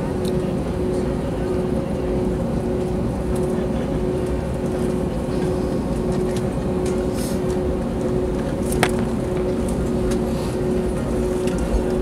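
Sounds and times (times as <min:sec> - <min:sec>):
aircraft cabin rumble: 0:00.0 - 0:12.0
steady hum: 0:00.4 - 0:12.0.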